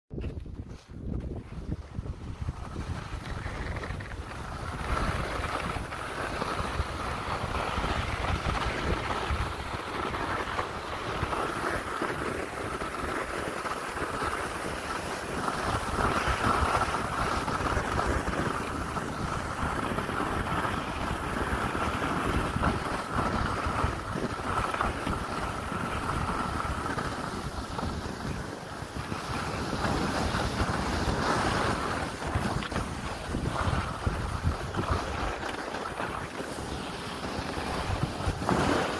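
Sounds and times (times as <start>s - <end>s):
wind buffeting microphone: 0.1s - 38.9s
skis hissing over snow: 0.6s - 38.9s.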